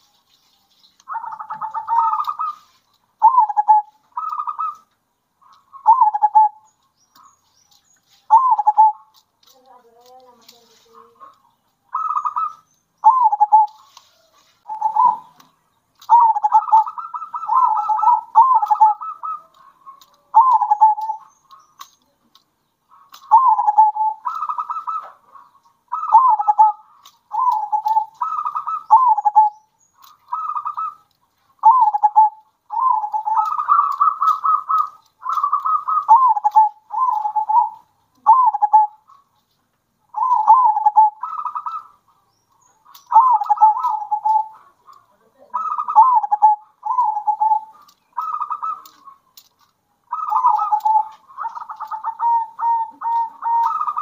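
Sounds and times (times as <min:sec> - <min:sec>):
doves cooing: 0:01.0 - 0:07.4, 0:08.2 - 0:54.0.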